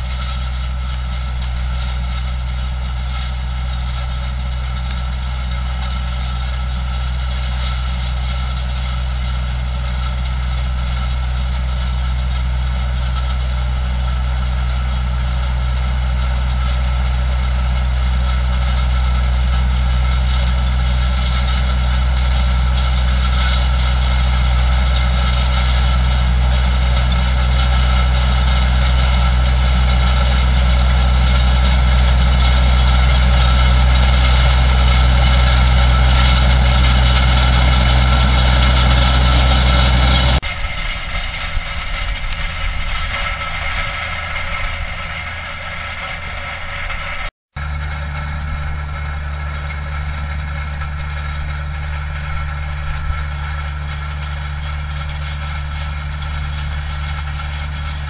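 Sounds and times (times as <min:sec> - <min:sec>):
steady high whine: 0:00.0 - 0:58.0
tractor diesel engine drone: 0:00.0 - 0:58.0.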